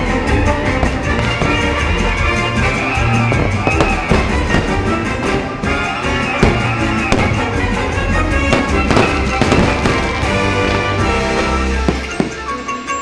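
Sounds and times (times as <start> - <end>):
orchestral music: 0.0 - 13.0
fireworks bangs: 0.7 - 12.5.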